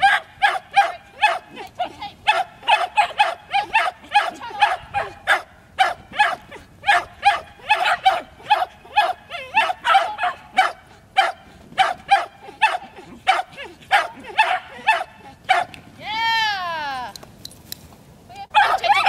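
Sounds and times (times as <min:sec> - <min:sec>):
dog barking: 0:00.0 - 0:01.6, 0:02.2 - 0:15.7, 0:18.6 - 0:19.0.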